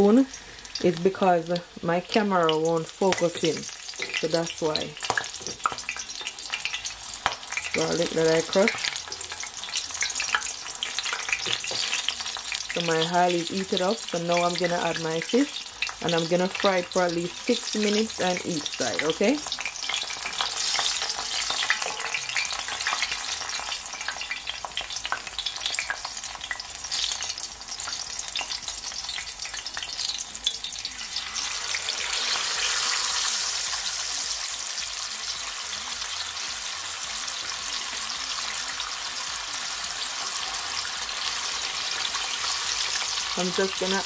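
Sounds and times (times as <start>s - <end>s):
fish frying: 0.0s - 44.0s
garlic and pepper sizzling in oil: 0.0s - 44.0s.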